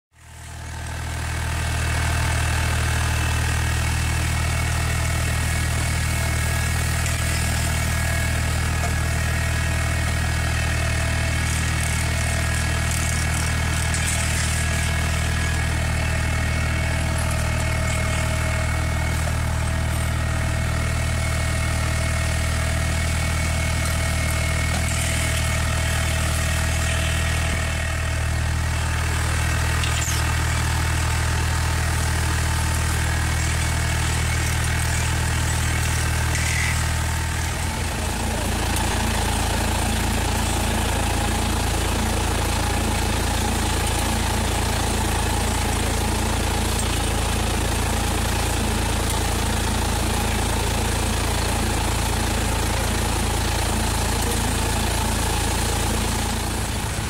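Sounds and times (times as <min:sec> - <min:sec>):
tractor engine running: 0:00.1 - 0:57.0.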